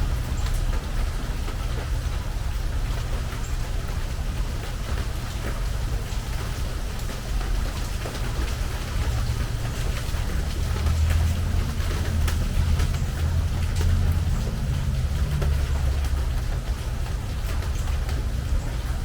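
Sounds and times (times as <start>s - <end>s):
rain on a metal roof: 0.0s - 19.0s
steady low rumble: 0.0s - 19.0s.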